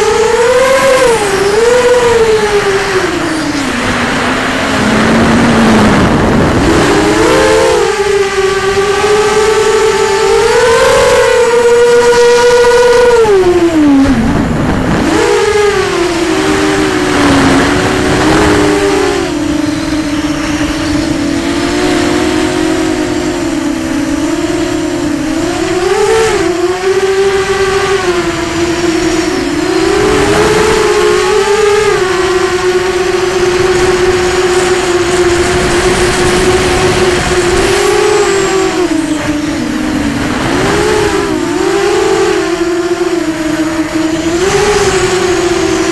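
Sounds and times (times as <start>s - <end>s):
quadcopter motors whining: 0.0s - 45.9s.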